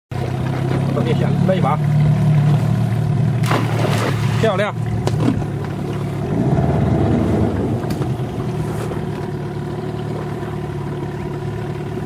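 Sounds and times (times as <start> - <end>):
boat engine droning: 0.1 - 12.0.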